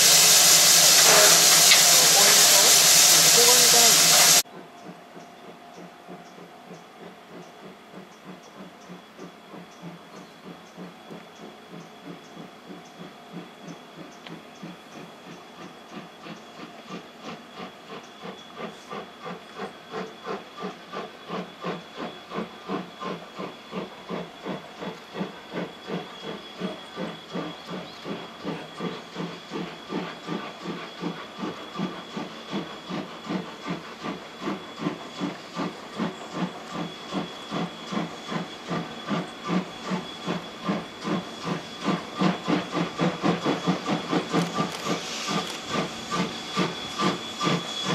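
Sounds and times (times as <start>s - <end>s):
steam locomotive chuffing: 0.0s - 47.9s.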